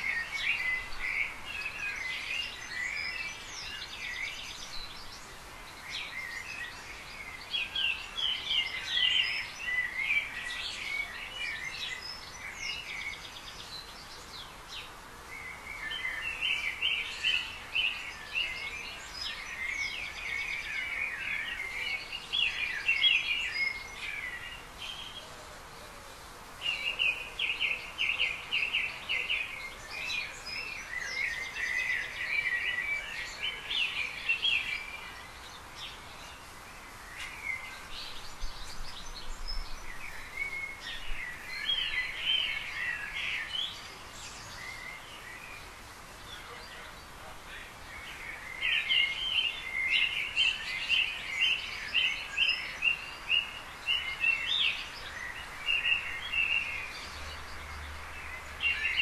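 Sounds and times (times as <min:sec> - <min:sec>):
birds singing: 0:00.0 - 0:59.0
steady background hiss: 0:00.0 - 0:59.0.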